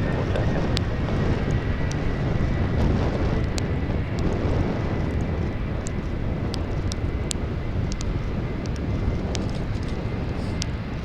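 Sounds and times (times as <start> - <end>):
jet engines rumbling: 0.0 - 11.0
turbine whine: 0.0 - 11.0.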